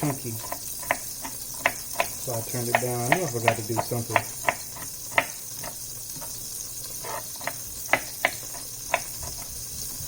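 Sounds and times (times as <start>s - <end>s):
knife tapping on cutting board: 0.0s - 6.4s, 7.4s - 9.5s
butter sizzling in a pan: 0.0s - 10.0s.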